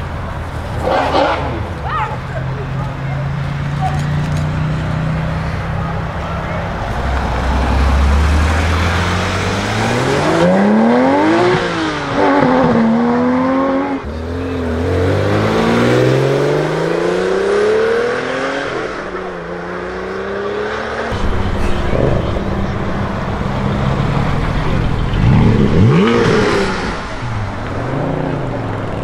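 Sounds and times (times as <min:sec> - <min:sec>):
car engines accelerating: 0:00.0 - 0:29.0.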